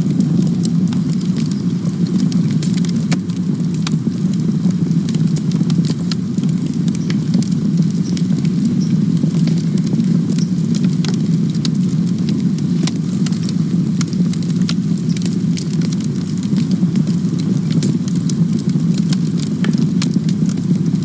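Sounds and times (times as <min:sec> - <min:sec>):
campfire crackling and popping: 0:00.0 - 0:21.0
fire low rumble: 0:00.0 - 0:21.0.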